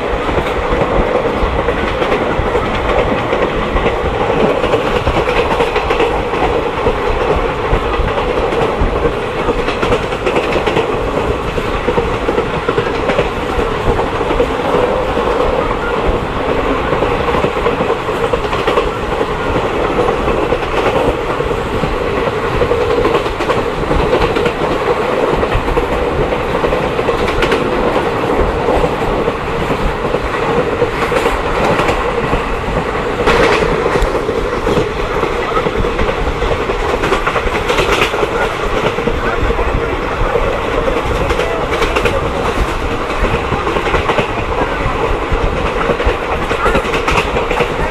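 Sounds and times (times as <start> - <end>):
train clattering: 0.0 - 47.9
train wheels rumbling on rails: 0.0 - 47.9.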